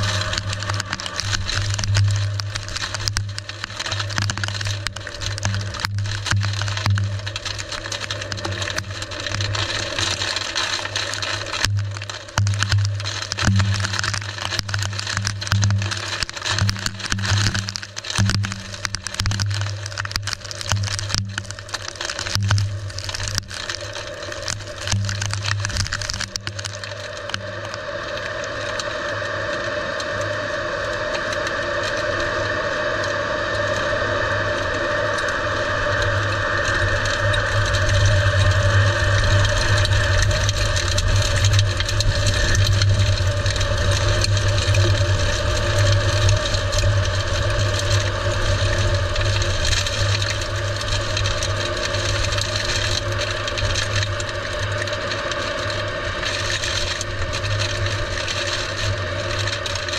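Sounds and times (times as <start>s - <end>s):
debris rattling and cracking: 0.0s - 29.1s, 34.5s - 59.9s
rain strikes: 0.0s - 59.9s
tornado wind rumble on microphone: 0.0s - 59.9s.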